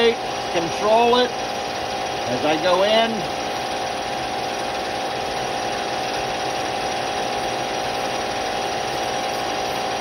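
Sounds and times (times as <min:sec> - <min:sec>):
lathe whining: 0:00.0 - 0:10.0.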